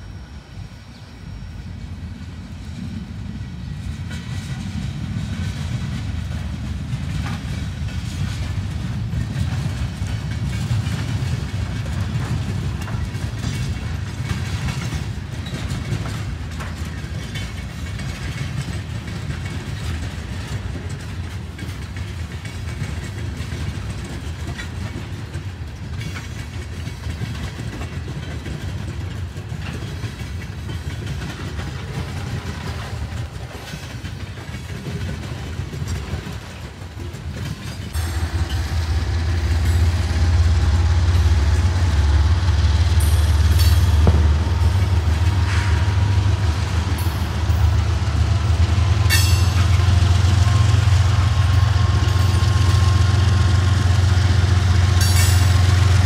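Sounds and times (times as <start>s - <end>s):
train clicks and clanks: 0.0s - 56.0s
train wheels rumbling on rails: 0.0s - 56.0s.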